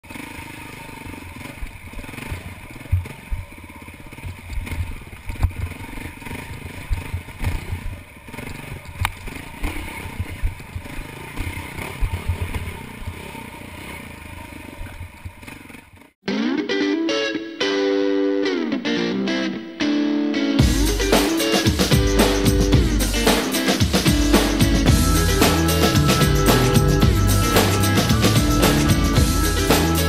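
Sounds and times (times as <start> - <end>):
dirt bike engine running: 0.0 - 16.2, 20.6 - 30.0.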